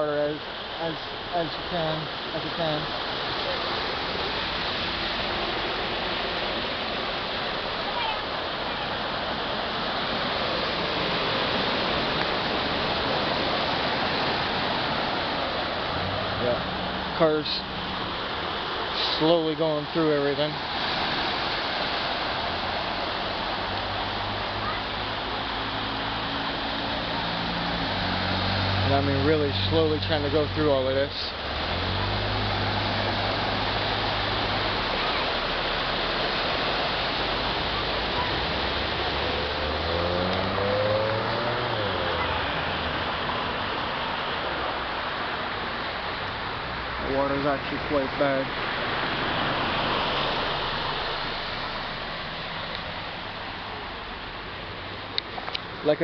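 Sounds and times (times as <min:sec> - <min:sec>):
floodwater rushing into drain: 0:00.0 - 0:56.0
low engine hum: 0:00.0 - 0:56.0
tyres churning water: 0:00.0 - 0:56.0.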